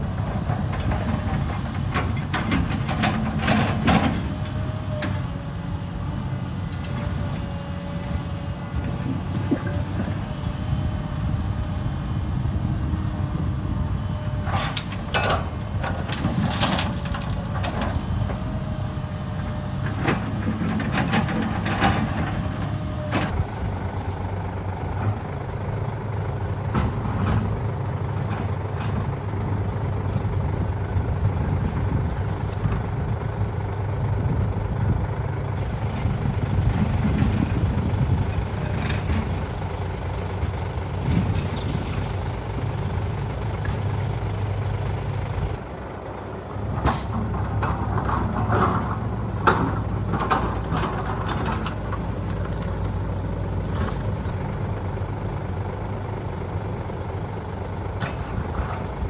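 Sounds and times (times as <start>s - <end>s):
heavy machinery engine rumbling: 0.0s - 59.0s.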